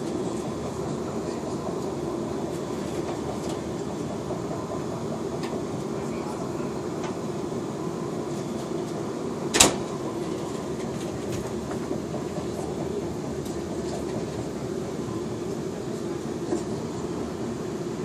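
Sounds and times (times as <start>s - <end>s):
moving train rumbling: 0.0s - 18.0s.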